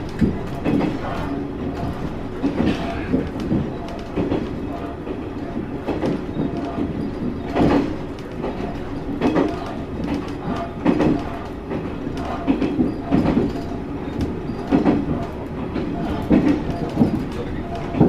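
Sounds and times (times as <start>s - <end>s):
railcar running hum: 0.0s - 18.0s
wheels clacking over rail joints: 0.0s - 18.0s.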